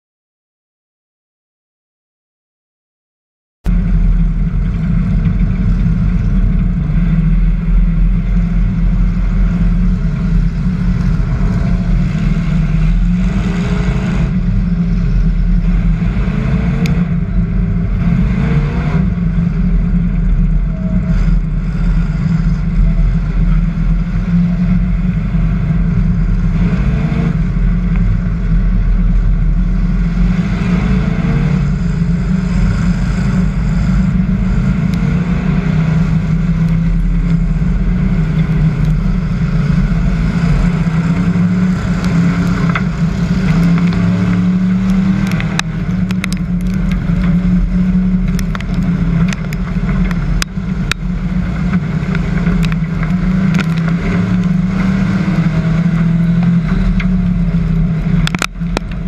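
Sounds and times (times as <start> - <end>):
engines of other race cars: 3.7 - 59.0
race car engine running hard: 3.7 - 59.0.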